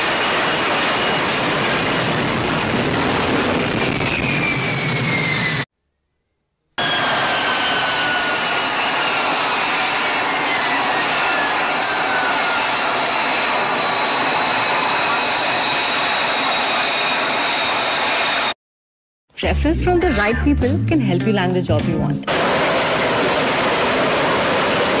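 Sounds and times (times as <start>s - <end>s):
jet engine roaring with whines: 0.0s - 5.7s, 6.8s - 18.6s, 22.3s - 25.0s.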